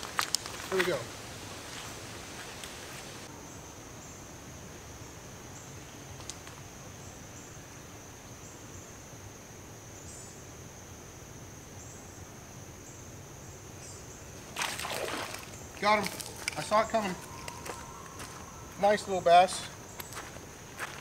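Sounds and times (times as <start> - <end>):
insects chorus: 0.0 - 21.0
low outdoor hiss: 0.0 - 21.0.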